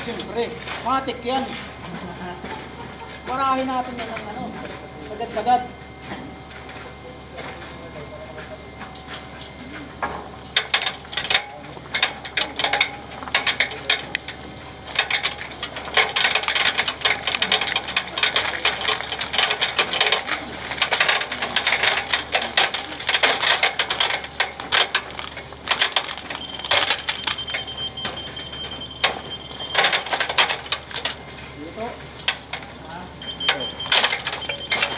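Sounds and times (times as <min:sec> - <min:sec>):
gravelly crackle of wet concrete: 0:00.0 - 0:34.9
steady low hum: 0:00.0 - 0:34.9.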